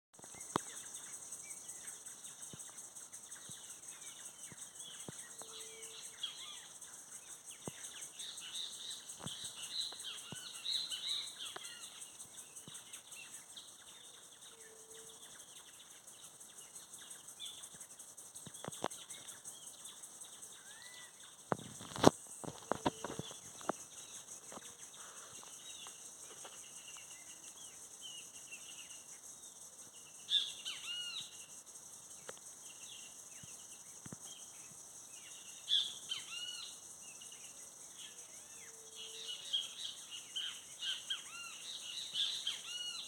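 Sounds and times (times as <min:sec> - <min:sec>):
small birds chirping: 0:00.2 - 0:43.0.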